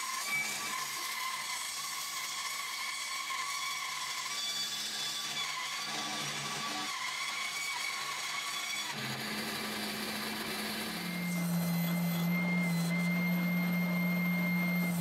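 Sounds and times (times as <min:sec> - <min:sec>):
woodworking power tool motor hum: 0:00.0 - 0:15.0.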